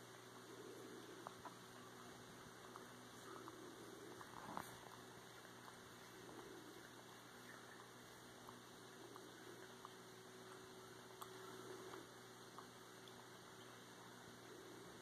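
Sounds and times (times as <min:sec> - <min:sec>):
faint steady hum: 0:00.0 - 0:15.0
soft suckling clicks: 0:00.0 - 0:15.0.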